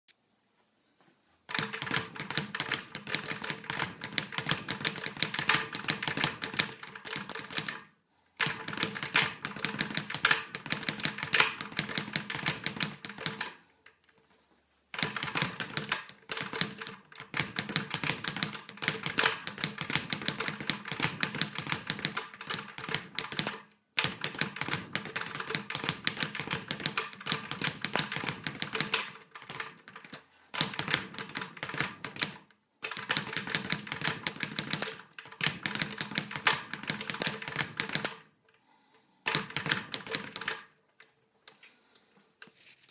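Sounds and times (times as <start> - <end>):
speed bag punching rattle: 1.5 - 13.6, 15.0 - 38.3, 39.3 - 40.7.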